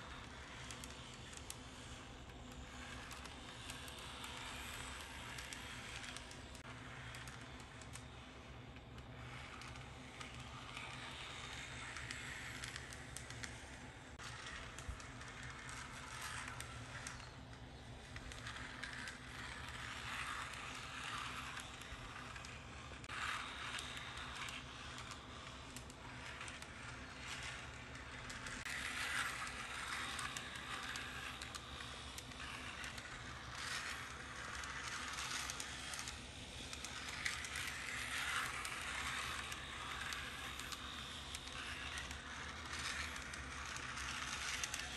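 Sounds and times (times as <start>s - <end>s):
model tram clicking rattle: 0.1s - 44.9s.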